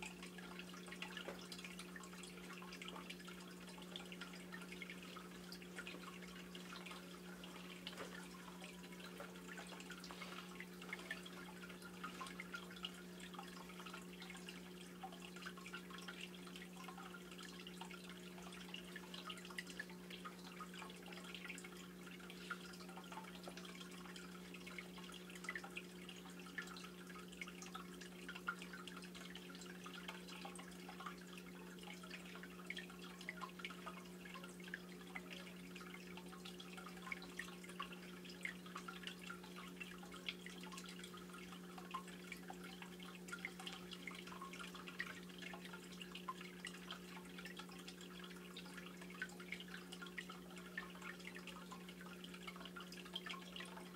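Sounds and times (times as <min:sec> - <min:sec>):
aquarium low hum: 0:00.0 - 0:53.9
water dripping and bubbling: 0:00.0 - 0:53.9.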